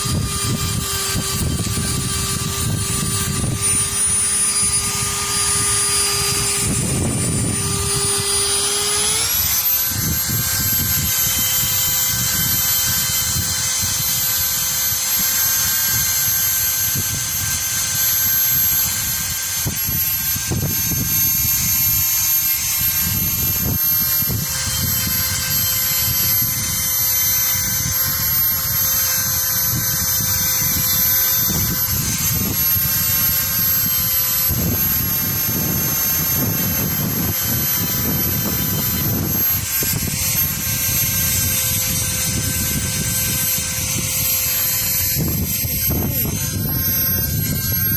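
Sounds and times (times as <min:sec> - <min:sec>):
bit grinding steel: 0:00.0 - 0:47.9
rotary tool whining: 0:00.0 - 0:47.9.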